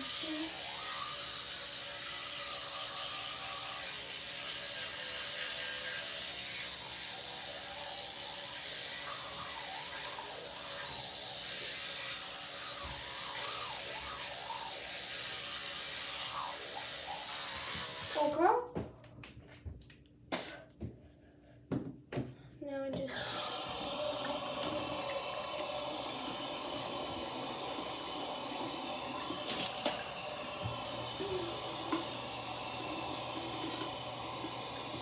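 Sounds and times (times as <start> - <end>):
electric toothbrush buzzing: 0.0 - 18.6, 23.0 - 35.0.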